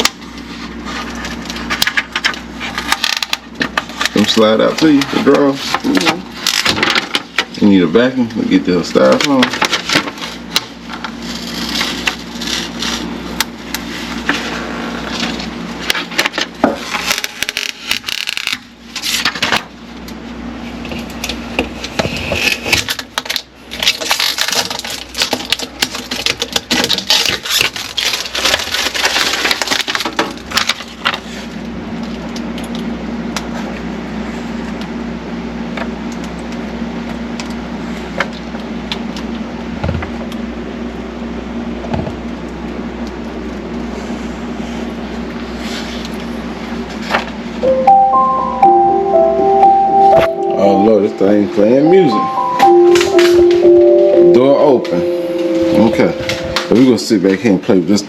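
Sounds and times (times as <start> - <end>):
steady low hum: 0.0 - 29.1, 29.8 - 58.0.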